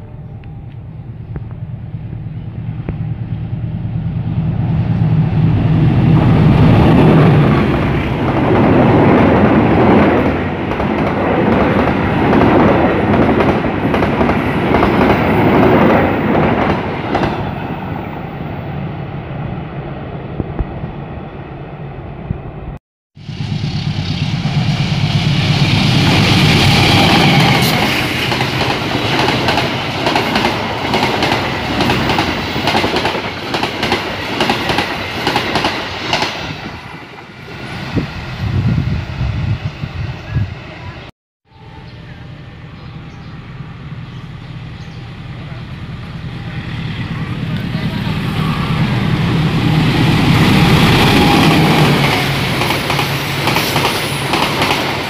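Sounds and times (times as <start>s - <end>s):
passenger train passing: 0.0s - 55.0s.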